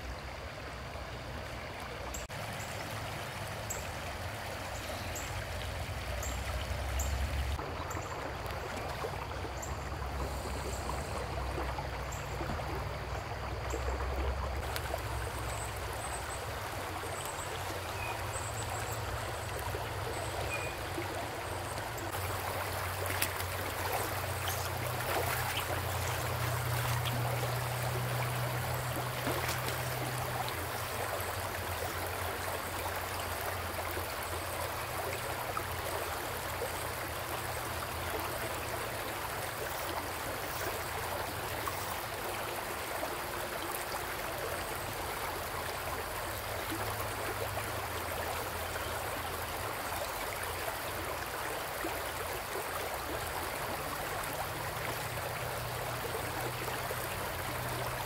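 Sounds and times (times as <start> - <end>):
river water rushing over stones: 0.0 - 58.0.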